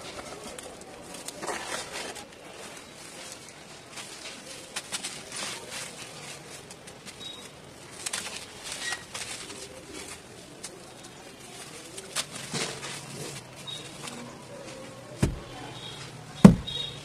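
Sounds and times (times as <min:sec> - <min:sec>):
dry dirt crunching and crumbling: 0:00.0 - 0:17.0.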